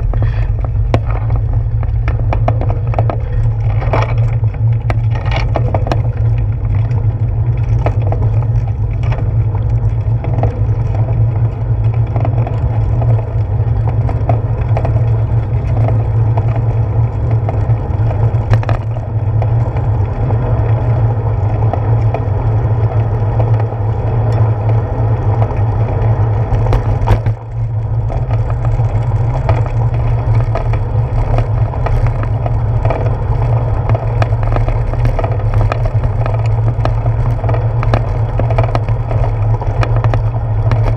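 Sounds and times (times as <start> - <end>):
bicycle rolling on pavement: 0.0 - 40.9
clicks and rattles: 0.0 - 40.9.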